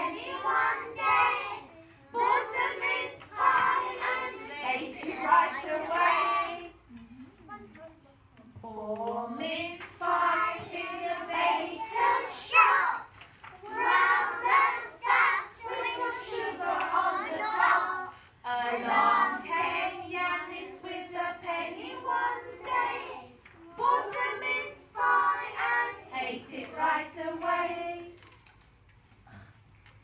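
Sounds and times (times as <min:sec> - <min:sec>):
children singing together: 0:00.0 - 0:06.8, 0:08.8 - 0:28.0.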